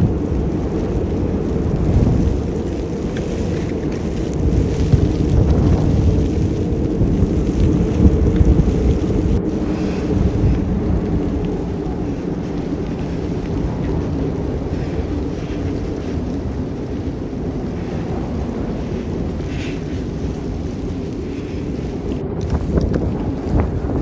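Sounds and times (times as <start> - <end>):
thunder rumbling: 0.0 - 24.0.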